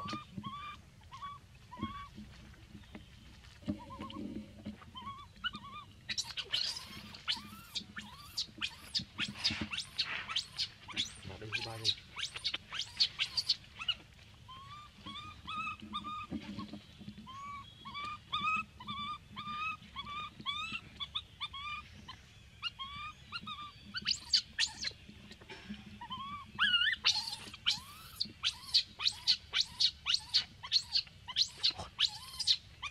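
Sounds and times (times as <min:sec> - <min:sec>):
baby monkey whimpering: 0:00.0 - 0:02.1, 0:04.9 - 0:21.8, 0:22.6 - 0:24.9, 0:26.0 - 0:32.9.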